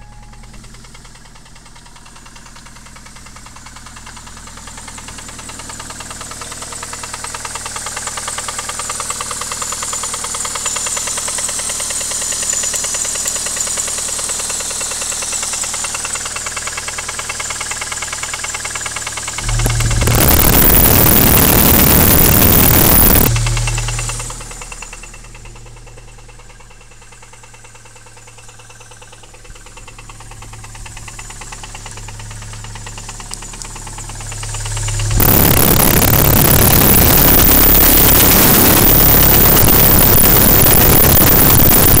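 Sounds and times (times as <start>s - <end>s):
engine running with rapid knocking: 0.0s - 42.0s.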